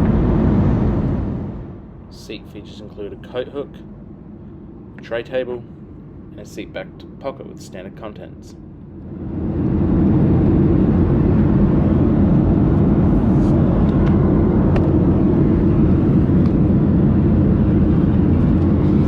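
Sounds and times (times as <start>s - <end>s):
aircraft engine rumble in cabin: 0.0s - 19.0s.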